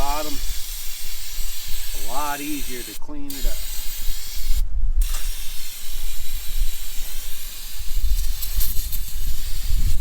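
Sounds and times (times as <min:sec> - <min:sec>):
water spray hissing: 0:00.0 - 0:10.0.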